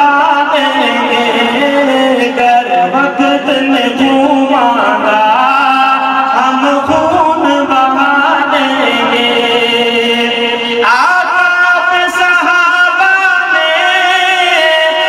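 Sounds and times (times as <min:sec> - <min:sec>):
man singing melismatic chant: 0:00.0 - 0:15.0.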